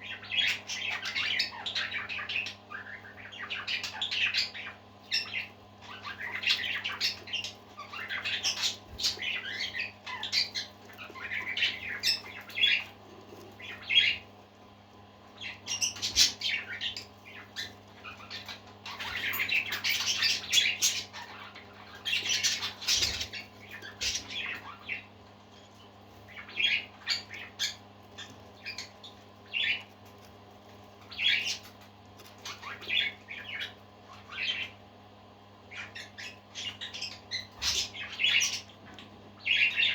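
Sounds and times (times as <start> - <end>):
parakeets chirping and squawking: 0.0 - 39.9.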